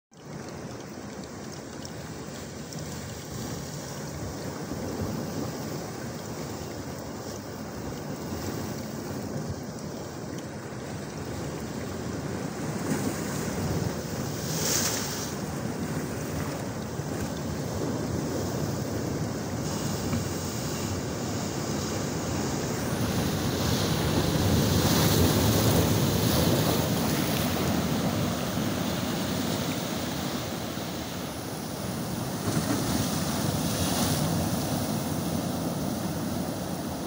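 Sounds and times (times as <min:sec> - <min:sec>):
rushing water: 0:00.1 - 0:37.0.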